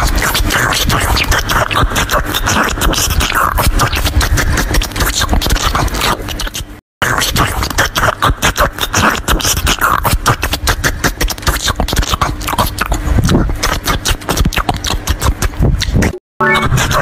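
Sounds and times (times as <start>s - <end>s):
crisp crunching and chewing: 0.0s - 16.1s.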